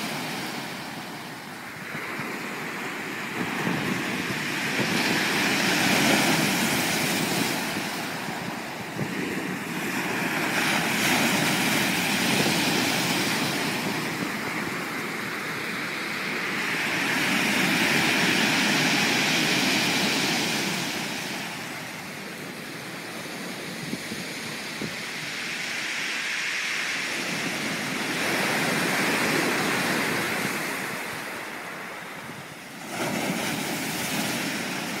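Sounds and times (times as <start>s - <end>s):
waves washing up pebble beach: 0.0s - 23.4s, 24.2s - 35.0s.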